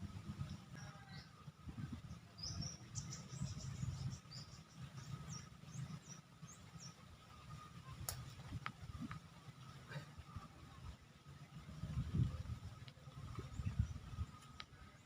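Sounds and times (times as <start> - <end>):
faint insect whine: 0.0 - 15.0.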